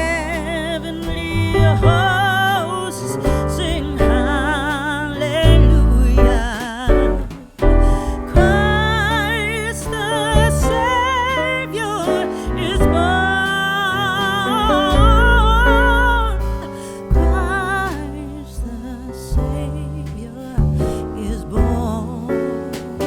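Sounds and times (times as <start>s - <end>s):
slow song with vibrato melody: 0.0s - 23.0s.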